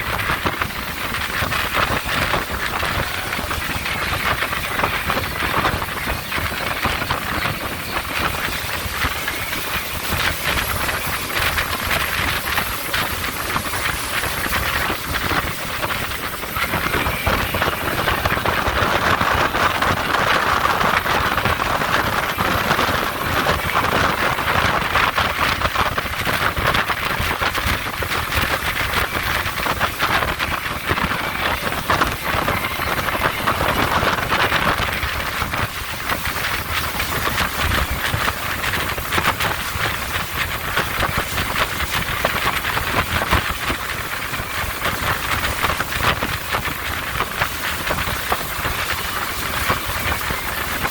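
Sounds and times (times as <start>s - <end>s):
speedboat engine and water rushing: 0.0s - 50.9s.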